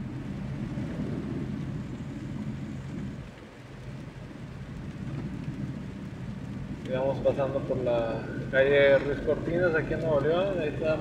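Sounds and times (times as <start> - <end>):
car engine rumble: 0.0 - 11.0
rain on vehicle: 0.0 - 11.0.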